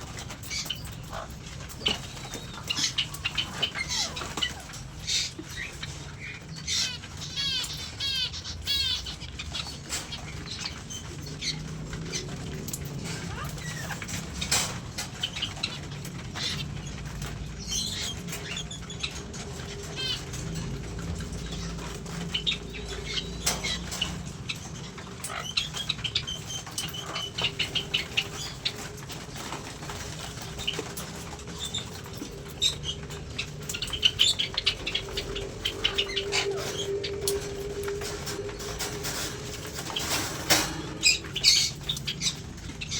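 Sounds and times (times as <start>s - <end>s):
birds fluttering wings: 0.0s - 42.9s
steady low hum: 0.0s - 42.9s.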